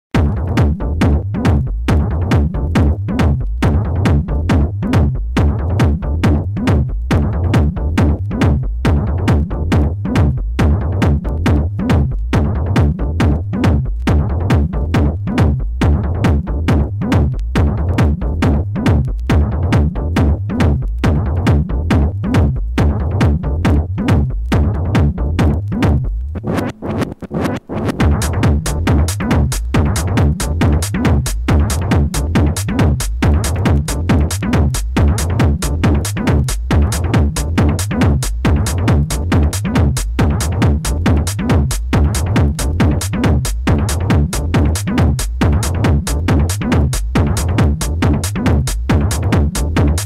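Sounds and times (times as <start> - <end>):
drum machine kick: 0.1 - 50.0
heavy bass line: 0.1 - 50.0.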